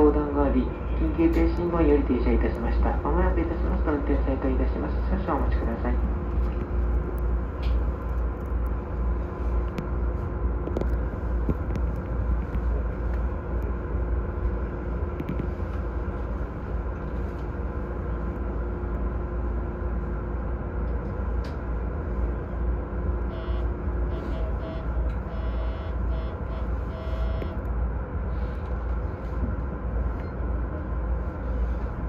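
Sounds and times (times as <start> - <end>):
train equipment rumble and hum: 0.0 - 32.0.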